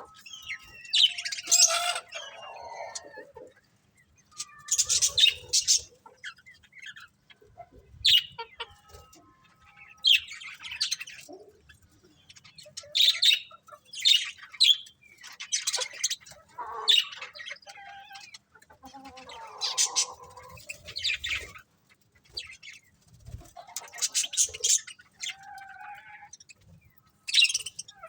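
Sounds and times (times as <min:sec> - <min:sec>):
budgerigars chirping: 0:00.1 - 0:03.4, 0:04.2 - 0:07.1, 0:08.0 - 0:08.8, 0:09.7 - 0:11.4, 0:12.1 - 0:21.6, 0:23.6 - 0:28.0.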